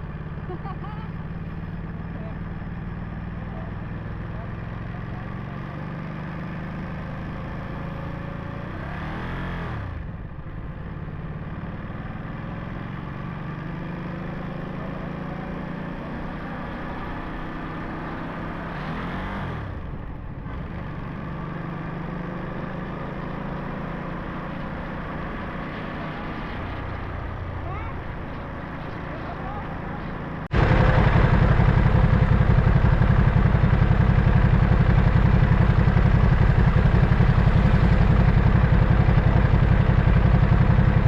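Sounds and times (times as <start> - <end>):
motorcycle engine shifting gears: 0.0 - 41.0.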